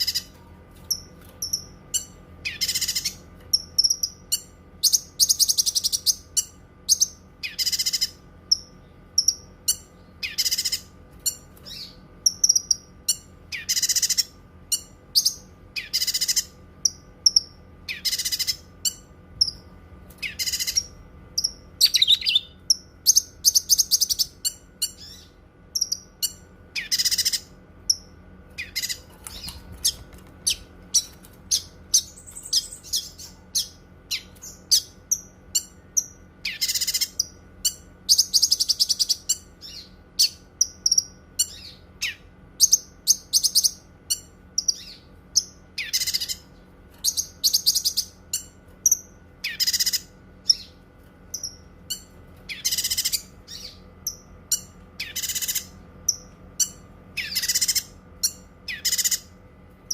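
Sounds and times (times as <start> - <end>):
bird singing high chirps and trills: 0.0 - 59.9.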